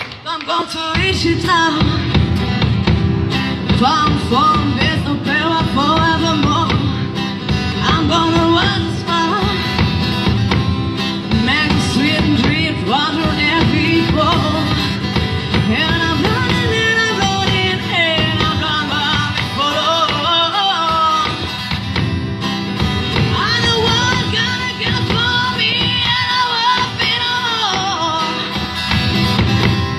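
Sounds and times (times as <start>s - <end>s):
acoustic guitar: 0.0s - 29.9s.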